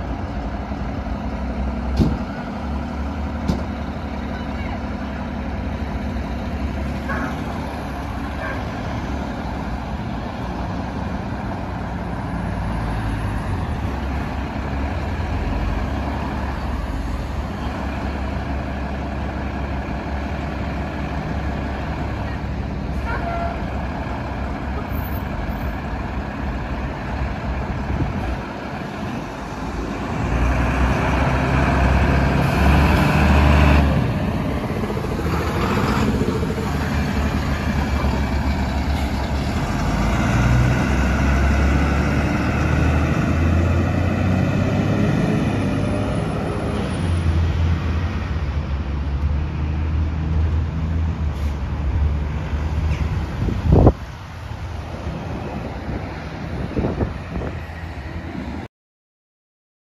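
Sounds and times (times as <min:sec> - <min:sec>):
diesel fire engine driving past: 0:00.0 - 0:58.7
road traffic: 0:00.0 - 0:58.7.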